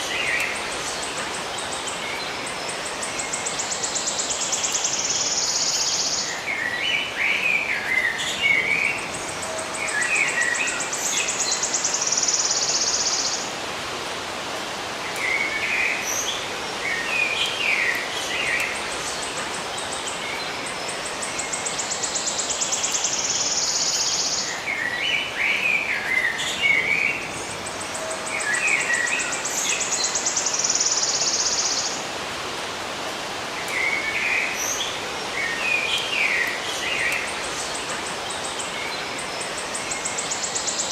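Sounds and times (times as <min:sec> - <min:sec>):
birds singing: 0:00.0 - 0:14.2, 0:14.9 - 0:32.2, 0:32.9 - 0:40.9
steady background hiss: 0:00.0 - 0:40.9.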